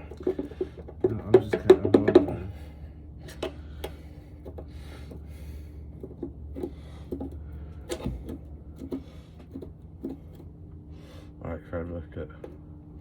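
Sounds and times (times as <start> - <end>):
engine parts knocking and clicking: 0.0 - 10.5
steady low hum: 0.0 - 13.0.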